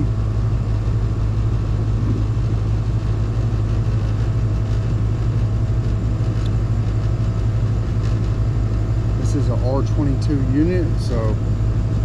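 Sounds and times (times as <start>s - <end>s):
heat pump compressor humming: 0.0s - 12.0s.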